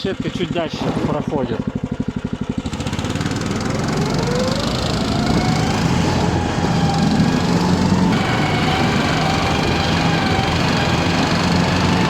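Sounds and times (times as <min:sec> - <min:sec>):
tracked snow vehicle engine revving: 0:00.0 - 0:12.0.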